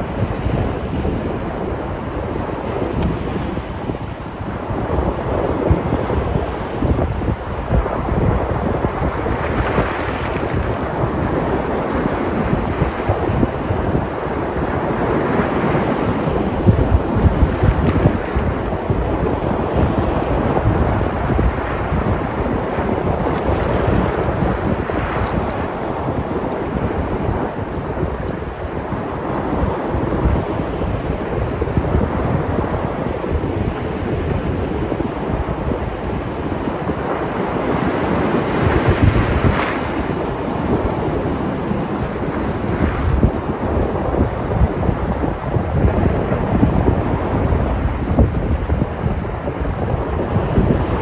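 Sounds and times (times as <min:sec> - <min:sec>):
sea waves breaking on shore: 0:00.0 - 0:51.0
wind buffeting microphone: 0:00.0 - 0:51.0.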